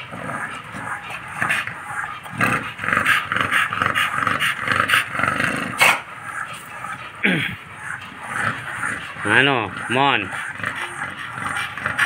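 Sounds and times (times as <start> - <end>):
dog growling: 0.0 - 12.0.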